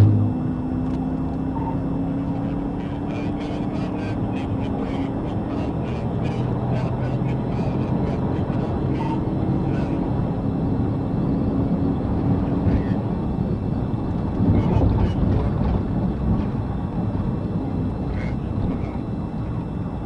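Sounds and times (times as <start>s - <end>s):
car interior road and engine noise: 0.0s - 20.0s.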